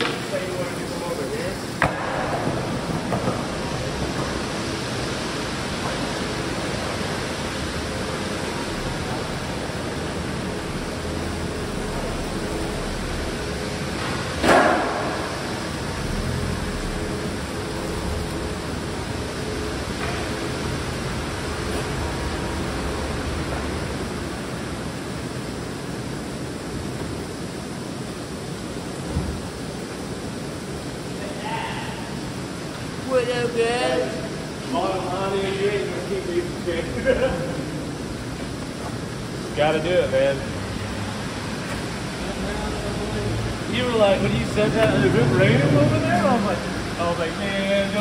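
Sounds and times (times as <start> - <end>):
rain hissing: 0.0 - 48.0.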